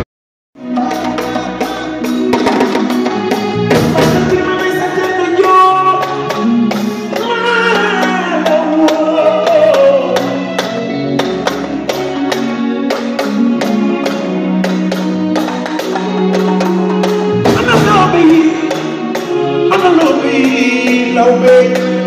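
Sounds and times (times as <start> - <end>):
band playing: 0.6 - 22.0.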